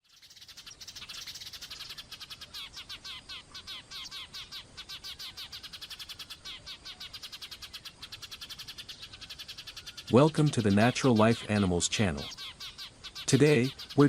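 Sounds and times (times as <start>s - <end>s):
small bird chirping rapidly: 0.0s - 14.0s.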